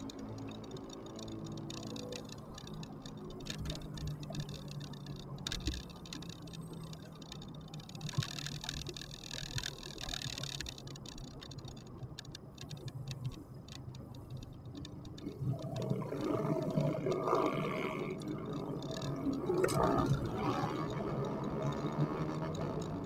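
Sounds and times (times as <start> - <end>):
vehicle road noise and hum: 0.0 - 23.0.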